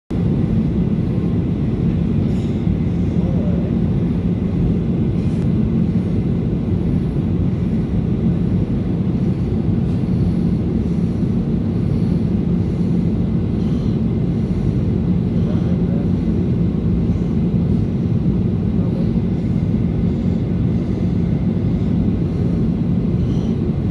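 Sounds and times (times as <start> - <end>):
jet airliner cabin roar: 0.1 - 23.9.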